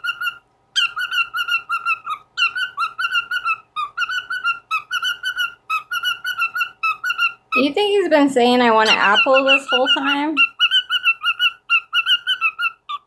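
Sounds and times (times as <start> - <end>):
cockatiel chattering whistles: 0.0 - 7.7, 8.8 - 13.0.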